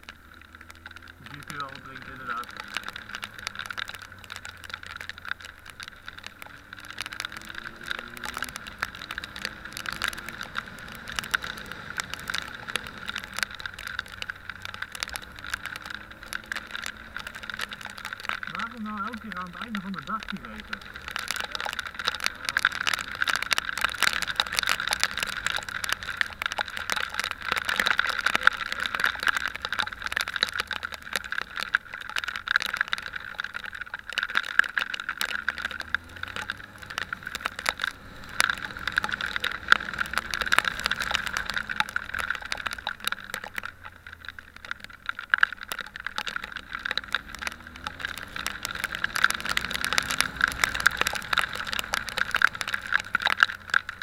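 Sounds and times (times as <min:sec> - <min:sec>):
motorcycle engine accelerating: 0:00.6 - 0:32.0, 0:34.6 - 0:44.0, 0:45.9 - 0:54.0.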